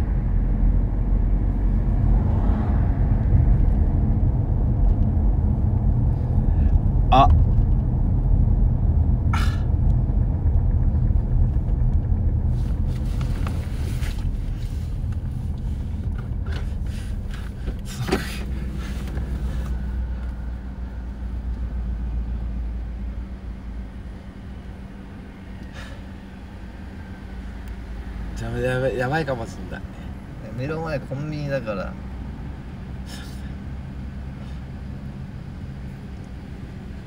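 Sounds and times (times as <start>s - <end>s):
car cabin engine and road rumble: 0.0s - 37.0s.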